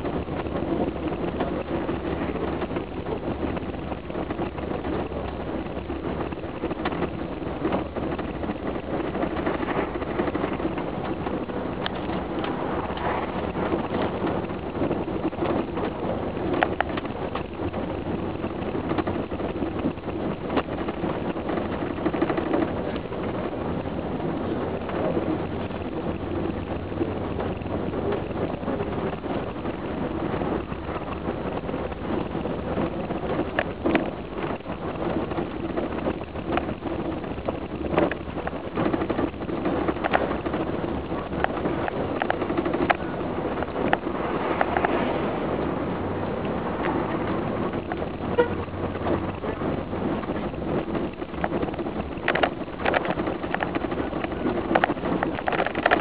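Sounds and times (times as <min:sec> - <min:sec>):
sharp clicks and rattles: 0:00.0 - 0:56.0
vehicle engine and road rumble: 0:00.0 - 0:56.0.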